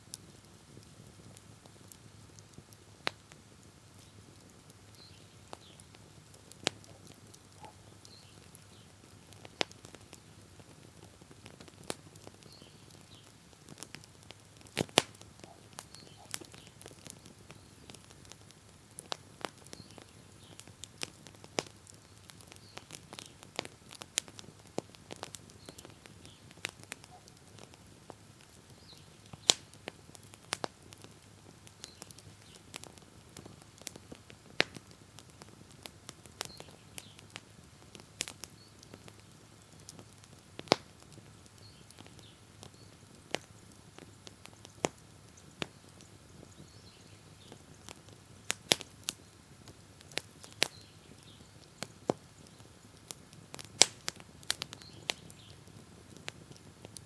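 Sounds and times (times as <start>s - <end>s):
bonfire crackling: 0.0s - 57.0s.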